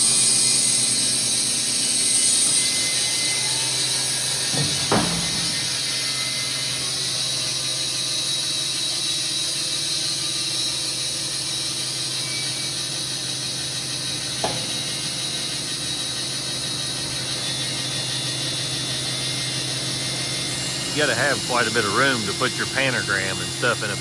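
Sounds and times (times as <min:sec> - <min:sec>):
band sawmill running: 0:00.0 - 0:24.0.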